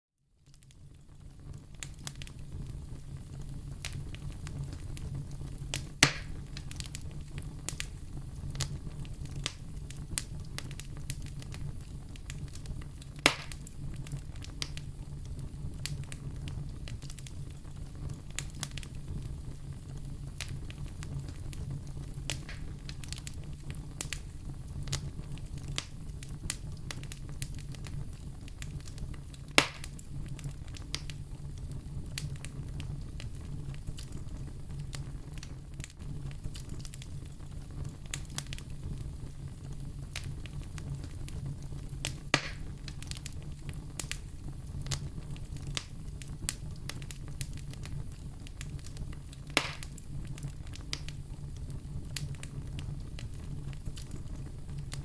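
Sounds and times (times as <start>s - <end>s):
fire crackling in a fireplace: 0.2s - 55.0s
sharp fire pops: 0.6s - 55.0s.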